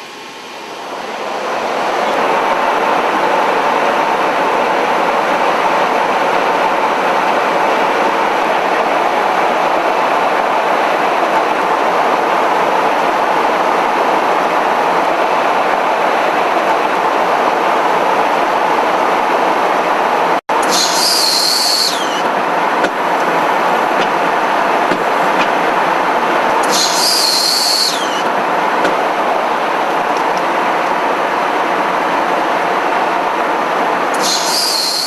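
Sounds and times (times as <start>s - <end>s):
jet cabin engine rush: 0.0s - 35.0s.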